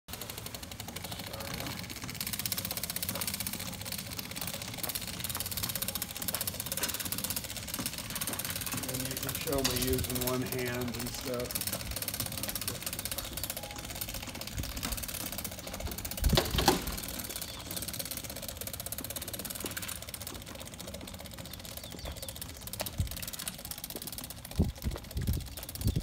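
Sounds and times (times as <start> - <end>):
chain drive and gears clicking: 0.1 - 26.0.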